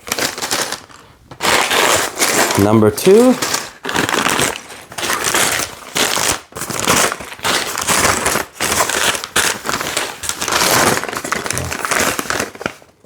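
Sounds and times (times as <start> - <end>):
paper bags crinkling and rustling: 0.0 - 13.0.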